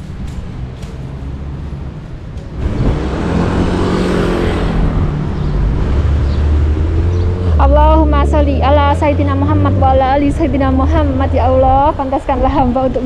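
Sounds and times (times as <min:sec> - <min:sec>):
car passing close: 0:00.0 - 0:12.7
low traffic rumble: 0:00.0 - 0:13.0.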